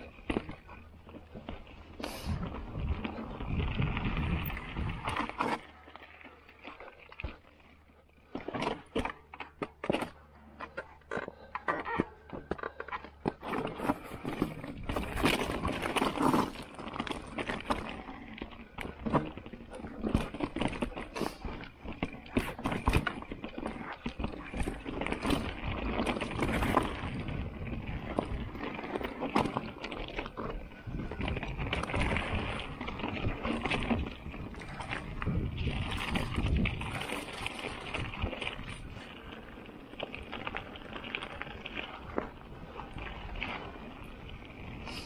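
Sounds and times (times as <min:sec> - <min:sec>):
bike knocking and rattling: 0:00.0 - 0:45.0
tyres running over stones: 0:00.0 - 0:45.0.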